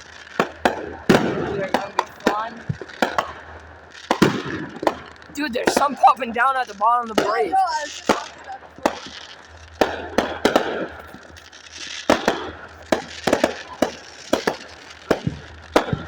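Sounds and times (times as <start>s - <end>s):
fireworks crackling: 0.0s - 16.0s
fireworks popping and banging: 0.0s - 16.0s.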